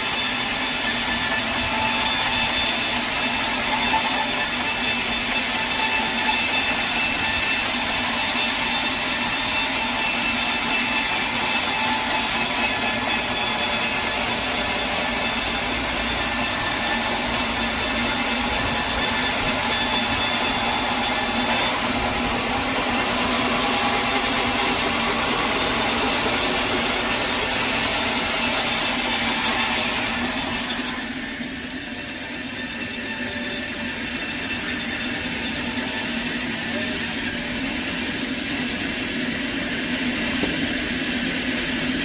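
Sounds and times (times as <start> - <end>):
sawmill blade cutting log: 0.0 - 42.0.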